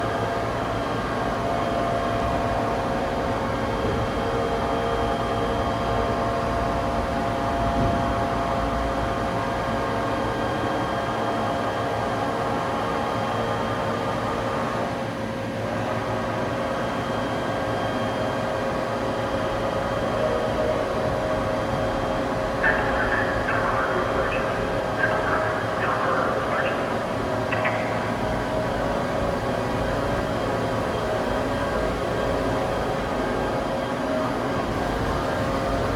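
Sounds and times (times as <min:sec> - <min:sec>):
industrial machinery humming and whining: 0:00.0 - 0:35.9.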